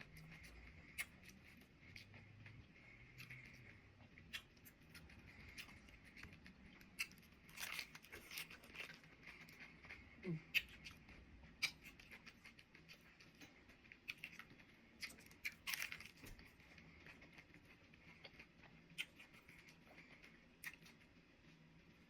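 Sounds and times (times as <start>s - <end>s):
chewing crunchy tacos: 0.0s - 22.0s.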